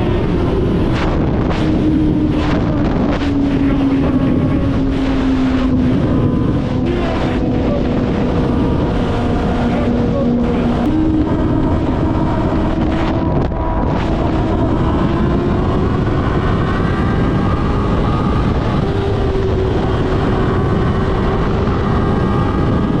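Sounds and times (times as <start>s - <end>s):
motorcycle engine at speed: 0.0s - 23.0s
wind noise on microphone: 0.0s - 23.0s.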